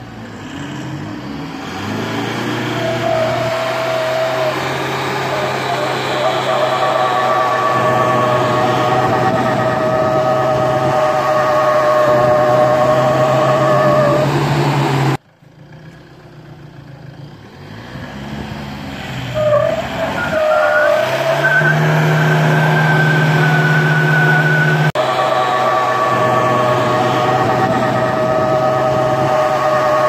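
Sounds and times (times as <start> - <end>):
engines straining at full throttle: 0.0 - 15.2, 17.3 - 30.0
wheels spinning in loose dirt: 1.7 - 17.0, 19.3 - 30.0.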